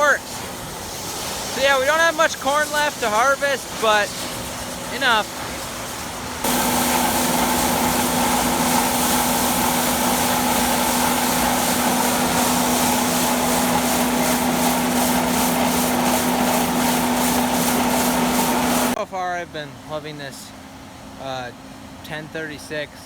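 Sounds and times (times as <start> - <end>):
high mechanical whine: 0.0 - 19.0
hiss of moving grain: 0.0 - 19.0
machinery humming: 0.0 - 19.0.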